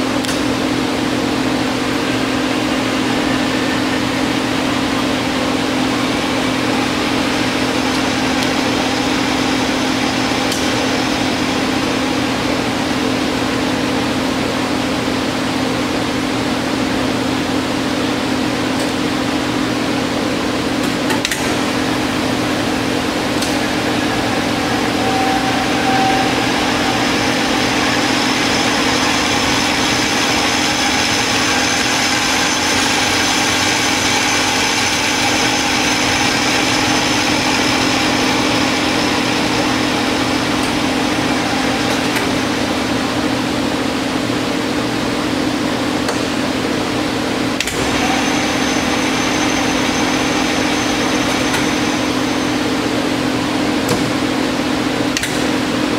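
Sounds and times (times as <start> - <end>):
lathe motor hum and whine: 0.0 - 55.9.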